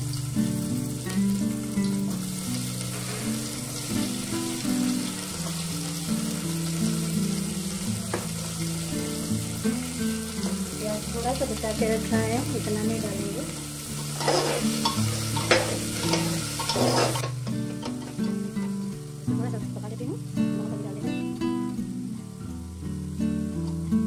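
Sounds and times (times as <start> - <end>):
background music: 0.0 - 24.0
vegetables sizzling in oil: 0.0 - 24.0.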